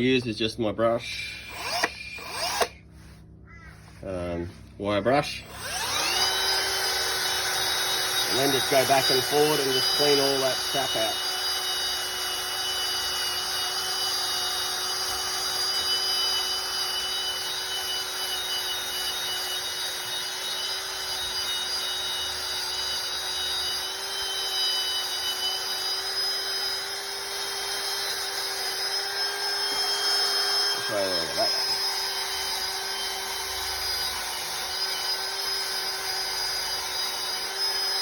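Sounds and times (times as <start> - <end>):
power drill with wire brush: 1.3 - 3.2, 3.8 - 38.0.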